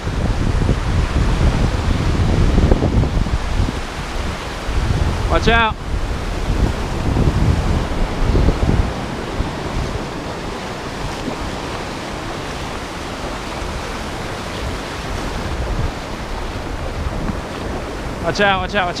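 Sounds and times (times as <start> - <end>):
ocean surf washing in: 0.0 - 19.0
wind rumble on microphone: 0.0 - 19.0.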